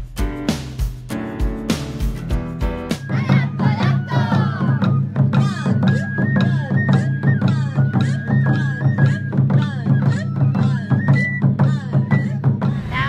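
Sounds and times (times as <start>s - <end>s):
high held melody line: 0.0s - 13.0s
taiko drums beaten fast: 0.0s - 13.0s.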